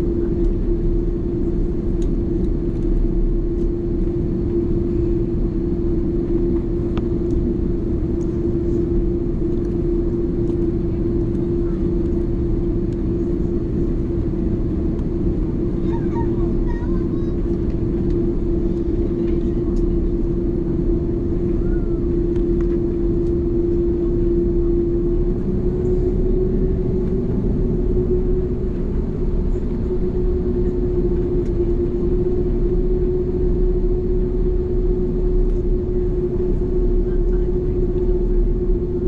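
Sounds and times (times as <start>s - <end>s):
aircraft cabin engine rumble: 0.0s - 39.0s.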